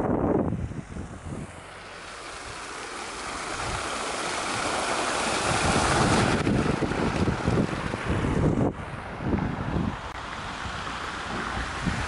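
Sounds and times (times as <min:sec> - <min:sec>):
wind buffeting microphone: 0:00.0 - 0:01.7, 0:02.4 - 0:12.0
fountain jets splashing into basin: 0:01.5 - 0:08.8, 0:09.4 - 0:12.0.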